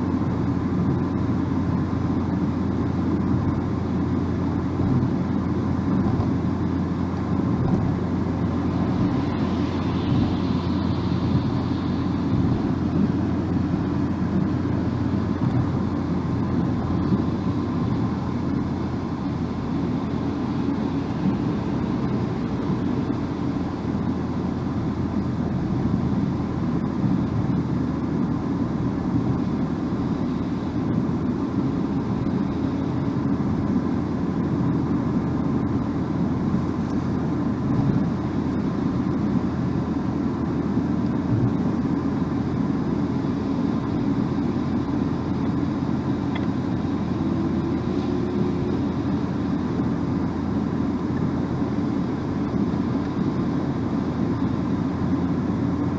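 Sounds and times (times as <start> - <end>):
car driving at road speed: 0.0 - 55.9.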